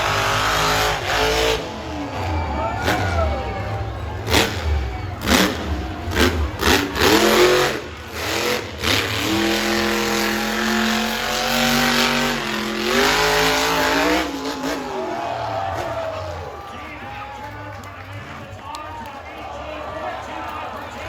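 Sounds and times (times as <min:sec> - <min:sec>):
monster truck engine revving: 0:00.0 - 0:18.8.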